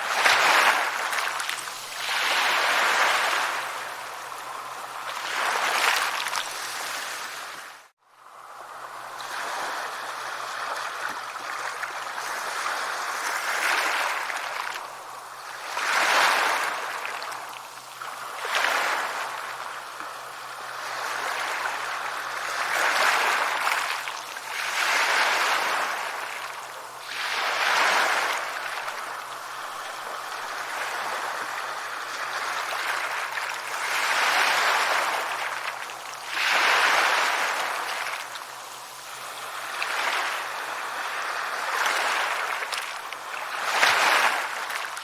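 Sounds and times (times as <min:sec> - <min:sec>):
sea waves breaking on shore: 0:00.0 - 0:45.0.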